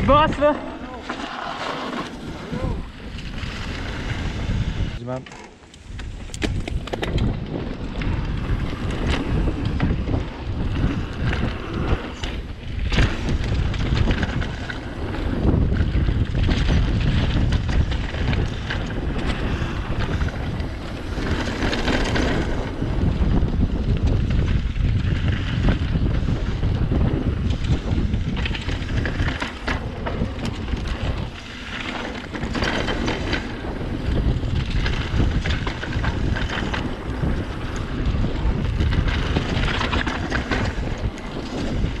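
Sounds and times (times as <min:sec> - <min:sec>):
wind buffeting microphone: 0:00.0 - 0:05.1, 0:05.8 - 0:42.0
bike knocks and rattles: 0:05.0 - 0:42.0.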